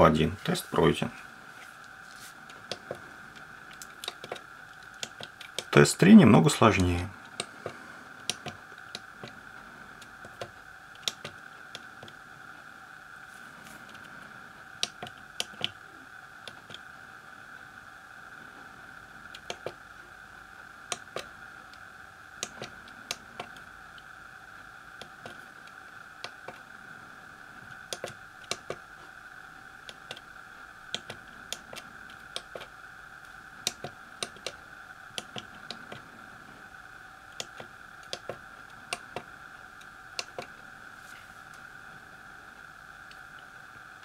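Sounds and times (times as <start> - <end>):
faint high hum: 0.0 - 44.0.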